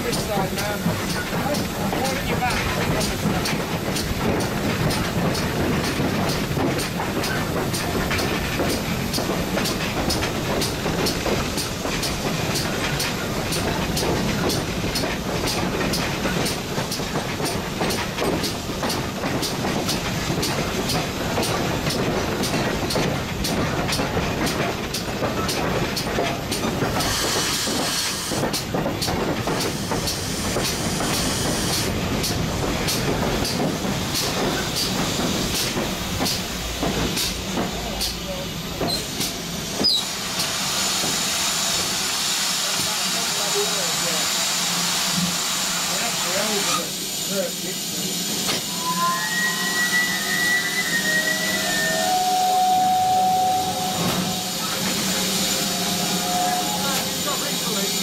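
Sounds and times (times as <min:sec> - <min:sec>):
loud steam hiss: 0:00.0 - 0:58.0
steam locomotive running: 0:00.0 - 0:58.0.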